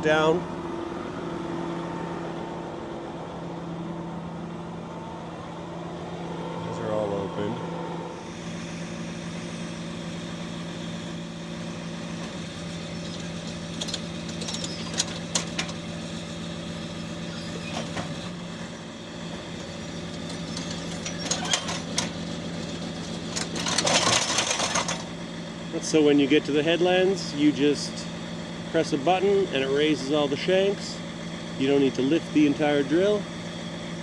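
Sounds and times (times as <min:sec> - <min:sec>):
tractor diesel engine idling: 0:06.8 - 0:34.0.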